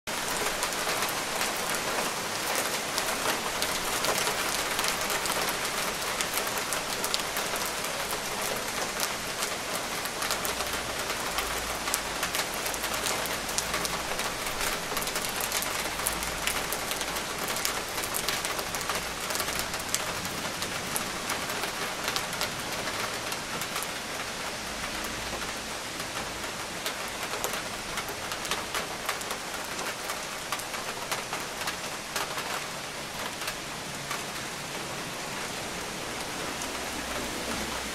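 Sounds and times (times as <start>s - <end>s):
steady rain falling: 0.1s - 37.9s.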